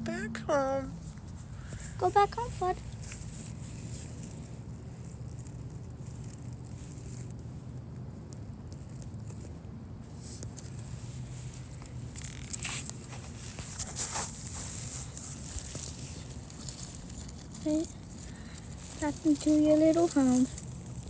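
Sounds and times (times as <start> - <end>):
steady low hum: 0.0 - 21.0
rustling and crackling: 0.1 - 21.0.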